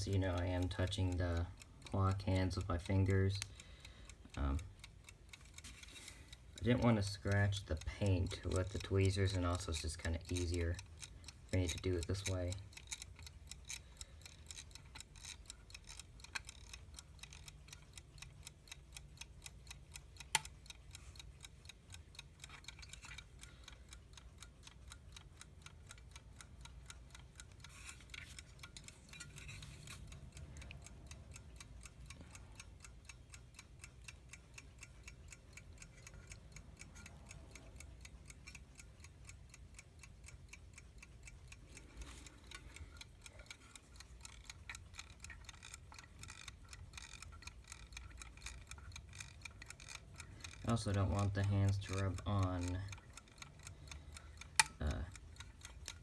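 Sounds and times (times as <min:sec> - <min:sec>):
clock ticking rapidly: 0:00.0 - 0:56.0.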